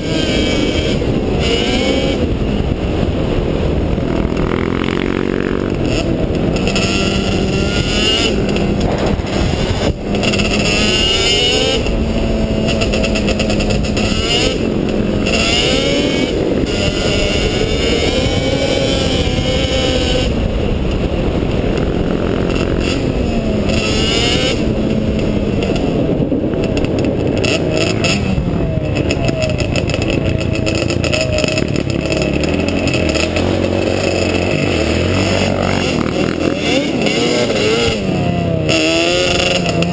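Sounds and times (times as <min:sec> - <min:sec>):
quad engines revving: 0:00.0 - 0:39.9.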